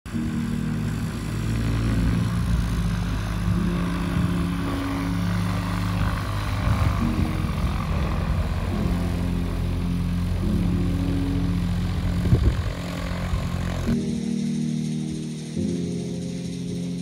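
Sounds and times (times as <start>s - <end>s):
light aircraft engine droning: 0.1s - 17.0s.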